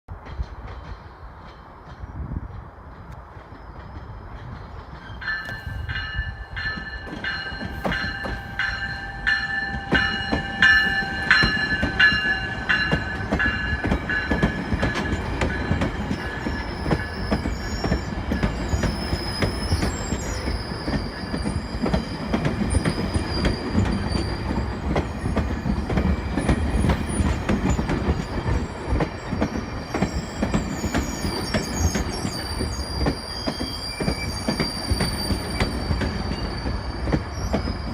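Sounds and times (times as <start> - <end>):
rail wheels rumbling and squealing: 0.1 - 37.9
train bell ringing: 5.0 - 37.9.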